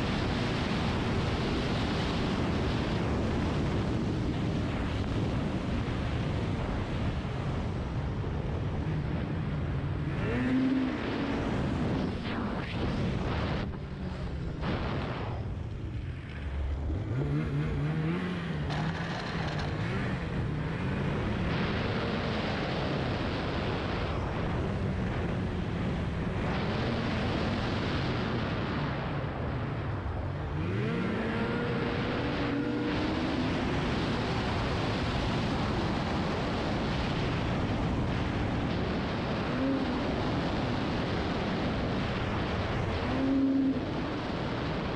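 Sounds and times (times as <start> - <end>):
snowmobile engine running: 0.0 - 28.6, 30.0 - 44.9.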